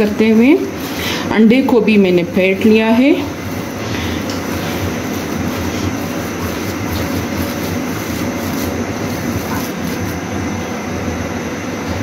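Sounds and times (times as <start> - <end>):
hand kneading food squelches: 0.0 - 10.4
mechanical rumble with low hum: 0.0 - 12.0.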